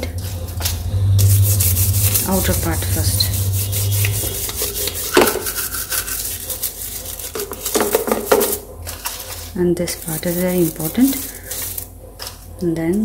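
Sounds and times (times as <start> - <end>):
bottle brush scrubbing: 1.0 - 12.0.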